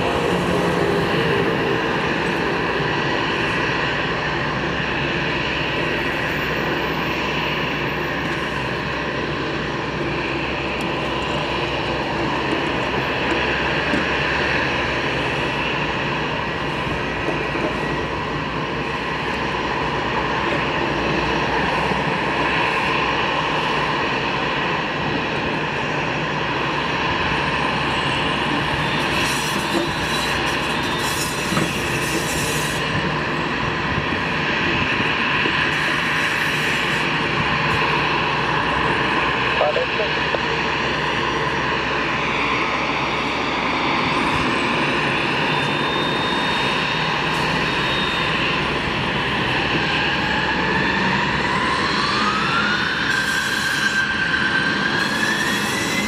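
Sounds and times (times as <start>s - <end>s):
jet engines running: 0.0s - 56.0s
steady engine whine: 0.0s - 56.0s.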